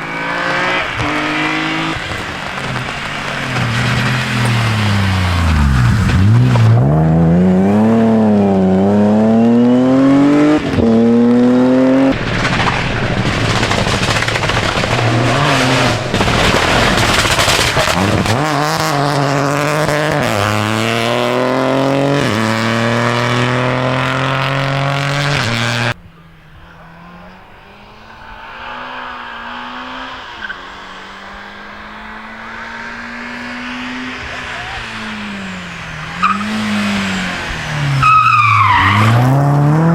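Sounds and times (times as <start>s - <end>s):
distant car engine: 0.0s - 39.9s
rally car engines revving: 0.0s - 39.9s.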